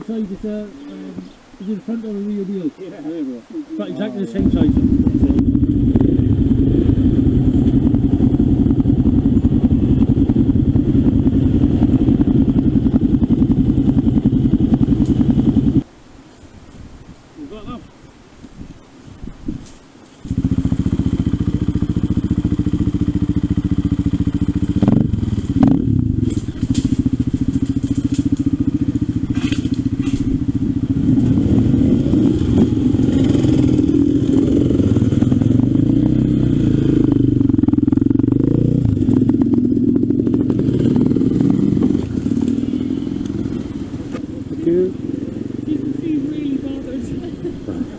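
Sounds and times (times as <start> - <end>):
motorcycle engine: 4.2 - 15.9, 20.2 - 47.9.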